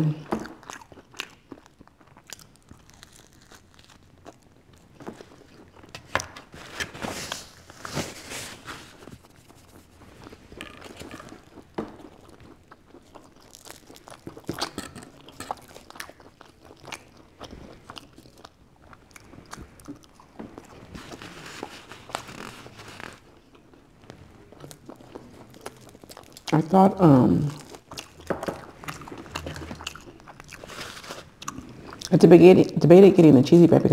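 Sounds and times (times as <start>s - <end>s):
wet chewing: 0.3s - 6.5s, 8.9s - 32.2s.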